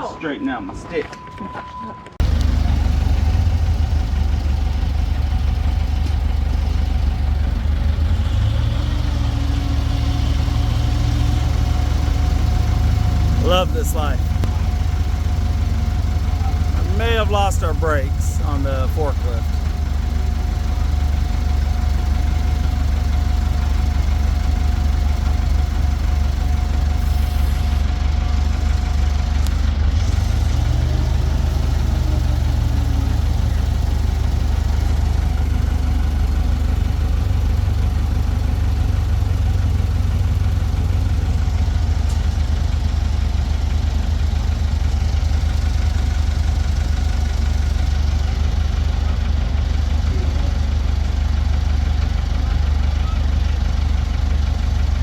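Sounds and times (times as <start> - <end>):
forklift engine running: 2.2 - 55.0.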